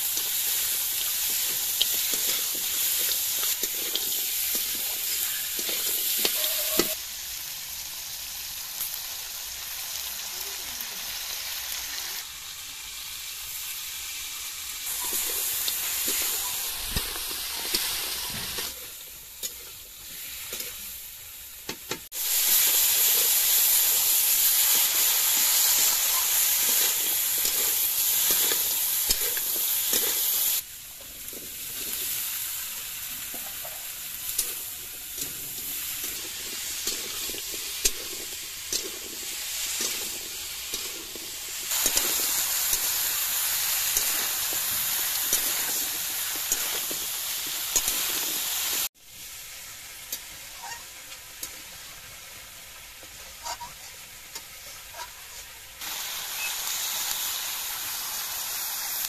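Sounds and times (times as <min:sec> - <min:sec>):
meat sizzling in hot oil: 0:00.0 - 0:59.0.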